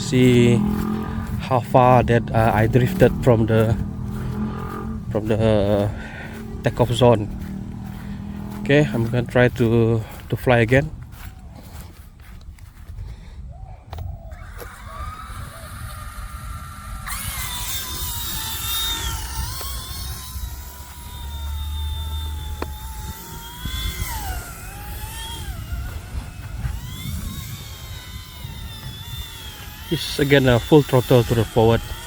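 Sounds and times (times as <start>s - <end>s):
rc helicopter motor whining: 0.0s - 32.0s
wind buffeting microphone: 0.0s - 32.0s.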